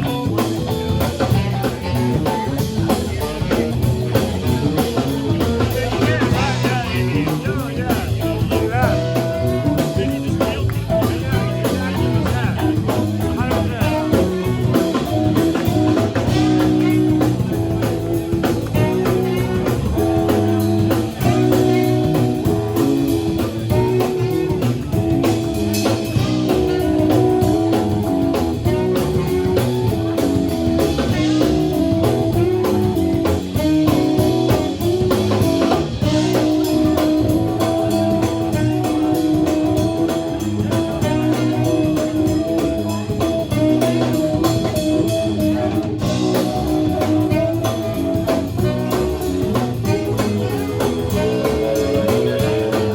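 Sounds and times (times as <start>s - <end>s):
bass guitar: 0.0s - 52.9s
drum kit: 0.0s - 52.9s
guitar playing: 0.0s - 52.9s.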